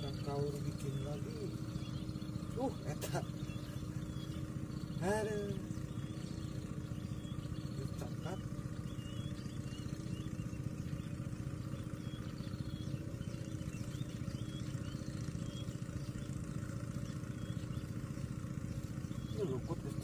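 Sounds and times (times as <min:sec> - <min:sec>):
faint high chirps: 0:00.0 - 0:20.0
motor engine running: 0:00.0 - 0:20.0.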